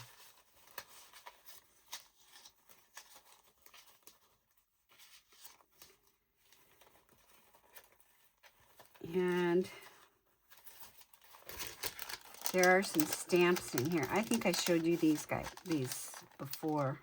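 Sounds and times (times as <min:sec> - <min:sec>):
paper rustling and clicking: 0:00.0 - 0:17.0.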